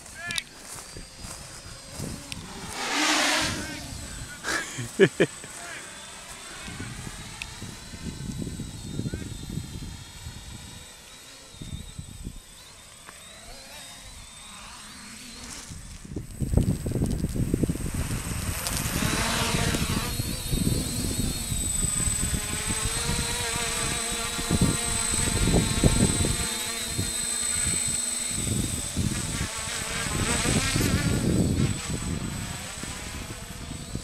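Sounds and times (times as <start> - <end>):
quadcopter propellers buzzing: 0.0 - 34.0.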